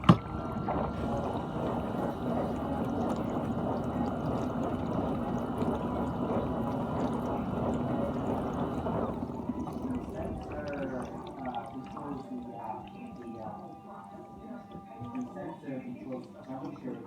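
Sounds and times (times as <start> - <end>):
dishwasher pump hum: 0.0 - 17.0
water spraying in dishwasher: 0.0 - 17.0.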